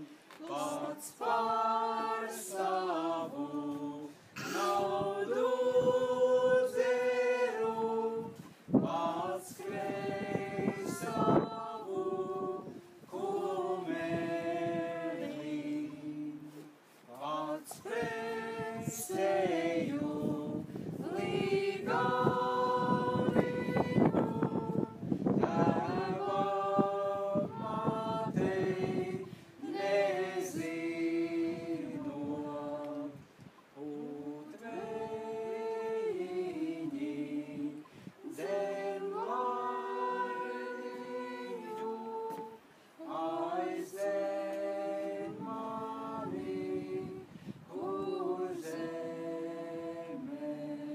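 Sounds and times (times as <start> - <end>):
a cappella group singing: 0.0 - 50.9.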